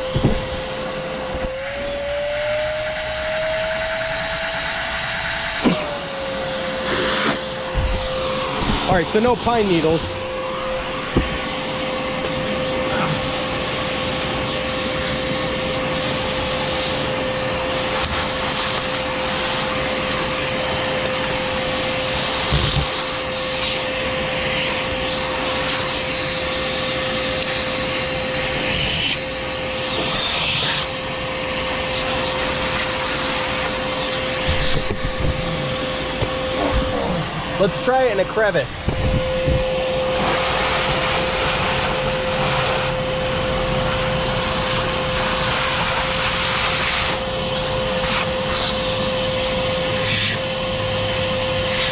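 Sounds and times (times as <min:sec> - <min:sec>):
shop vacuum running: 0:00.0 - 0:51.9.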